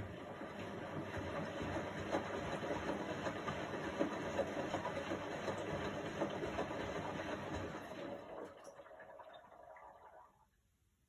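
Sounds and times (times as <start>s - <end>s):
washing machine drum churning: 0.0s - 9.8s.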